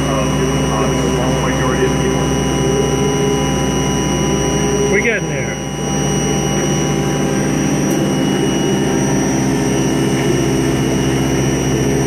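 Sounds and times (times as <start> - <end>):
milling machine spindle whine: 0.0 - 12.0.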